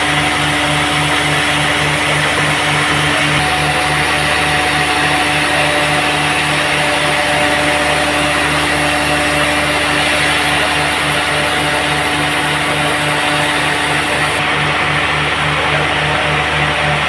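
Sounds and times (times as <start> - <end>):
sawmill machinery pulsing hum: 0.0 - 17.0.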